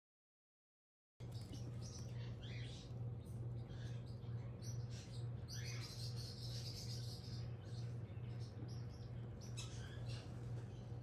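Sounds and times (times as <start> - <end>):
parrot chicks peeping: 1.2 - 11.0
steady low hum: 1.2 - 11.0.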